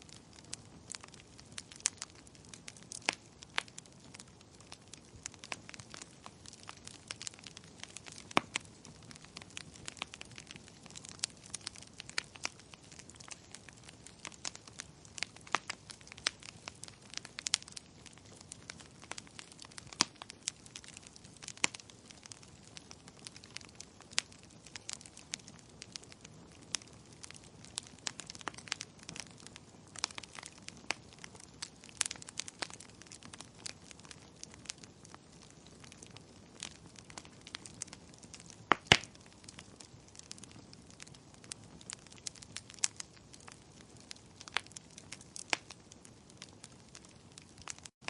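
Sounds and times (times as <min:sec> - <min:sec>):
soft steady hiss: 0:00.0 - 0:47.4
wood fire crackling: 0:00.0 - 0:48.0.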